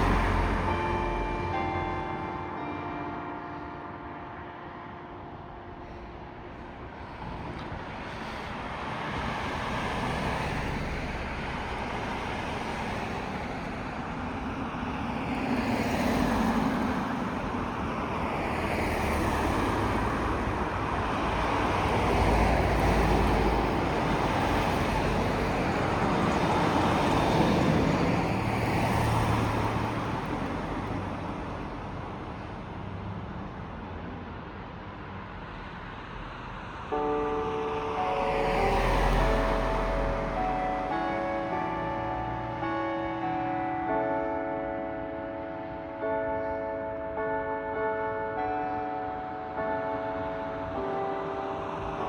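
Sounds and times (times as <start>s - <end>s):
road traffic rushing past: 0.0s - 46.0s.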